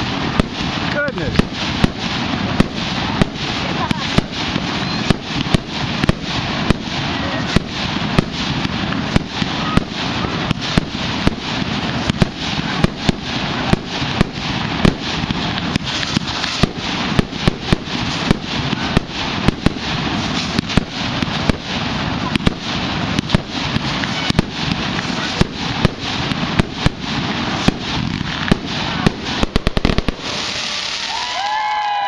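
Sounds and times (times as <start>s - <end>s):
fireworks bangs and pops: 0.0s - 32.0s
fireworks crackling hiss: 0.0s - 32.0s.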